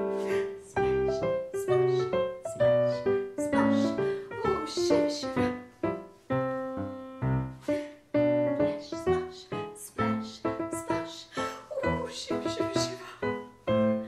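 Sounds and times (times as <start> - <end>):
solo piano: 0.0 - 14.0.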